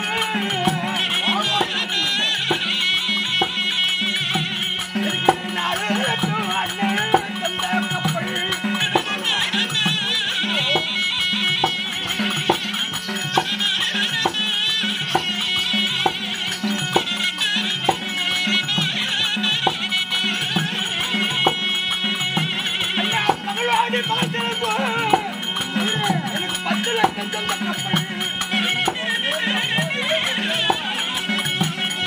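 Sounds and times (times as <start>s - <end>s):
ankle bells jingling: 0.0s - 32.0s
drum strokes: 0.0s - 32.0s
harmonium drone: 0.0s - 32.0s
reed pipe melody: 0.0s - 32.0s.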